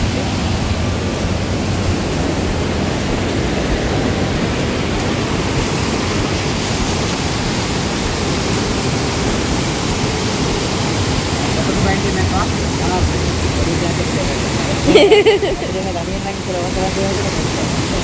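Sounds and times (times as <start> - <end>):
waterfall rushing over boulders: 0.0 - 18.0.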